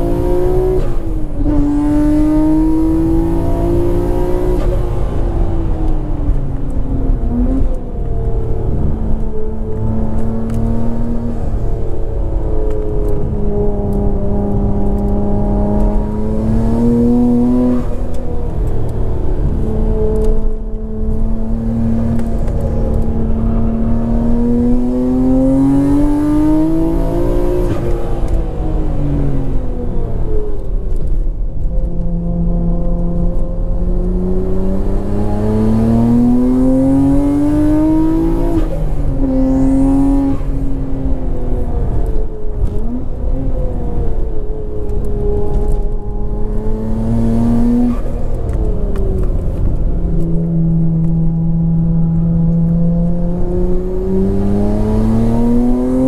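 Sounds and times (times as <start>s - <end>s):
car engine revving: 0.0s - 56.0s
road rumble: 0.0s - 56.0s.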